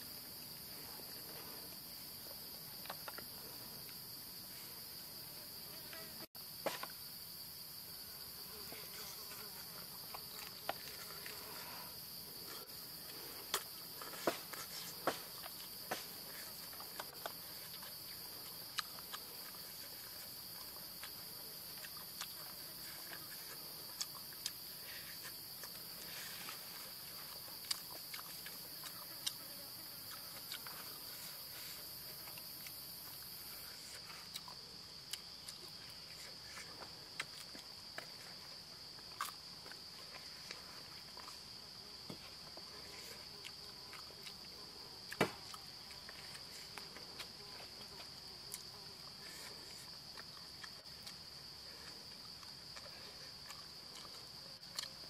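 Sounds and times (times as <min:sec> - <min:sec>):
high-pitched insect chorus: 0:00.0 - 0:55.0
higher insect drone: 0:00.0 - 0:55.0.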